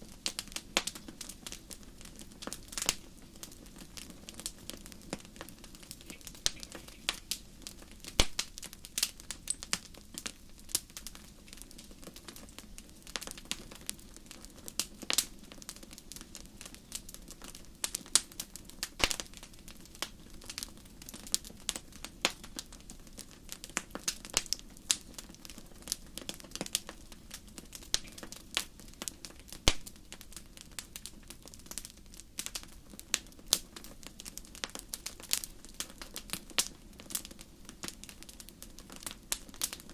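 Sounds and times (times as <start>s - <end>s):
faint low rush of fire: 0.0s - 39.9s
fire crackling and popping: 0.0s - 39.9s.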